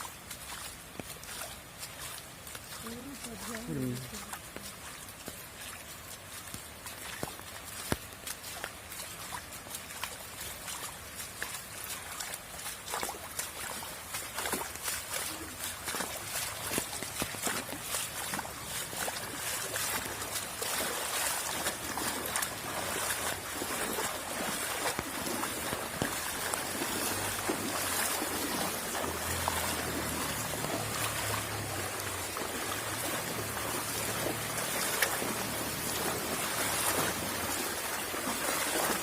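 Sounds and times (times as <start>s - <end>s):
floodwater rushing and splashing: 0.0s - 39.0s.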